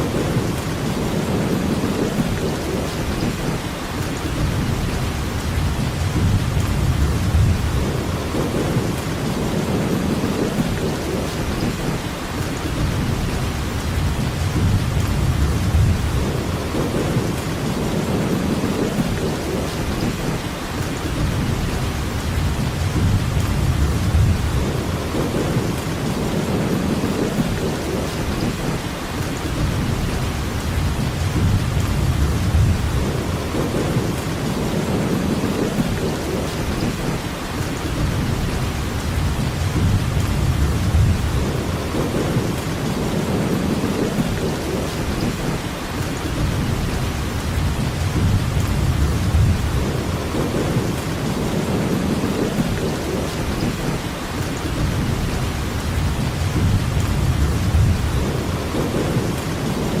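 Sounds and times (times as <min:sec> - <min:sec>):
rain hissing: 0:00.0 - 1:00.0
low rumbles: 0:04.2 - 0:12.0, 0:12.7 - 0:20.4, 0:21.0 - 0:28.8, 0:29.5 - 0:37.2, 0:38.0 - 0:45.6, 0:46.3 - 0:54.0, 0:54.6 - 0:59.8.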